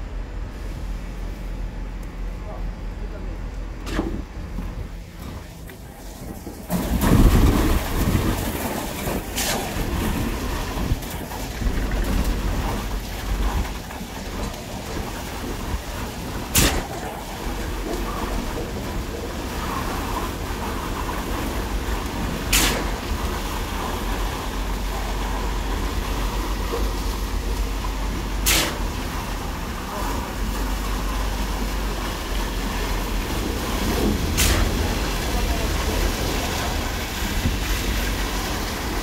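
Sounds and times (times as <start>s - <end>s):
concrete pump rumbling: 0.0s - 39.0s.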